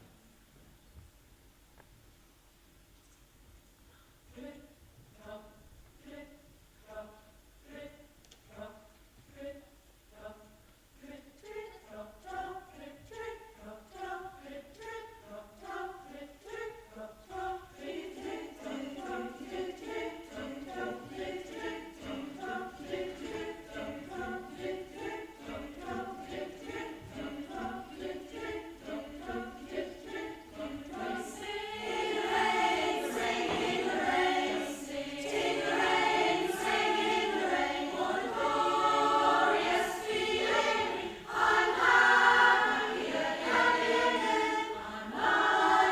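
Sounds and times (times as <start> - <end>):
choir singing rhythmic notes: 5.2 - 45.9.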